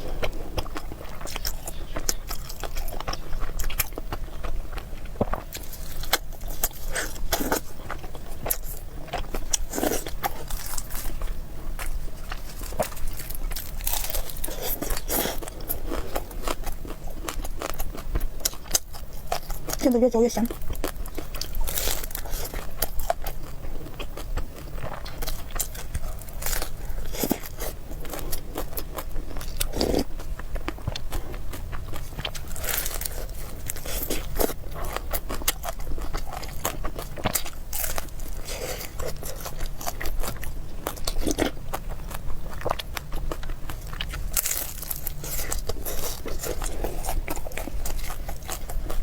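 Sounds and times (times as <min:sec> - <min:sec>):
person chewing crunchy food: 0:00.0 - 0:49.0.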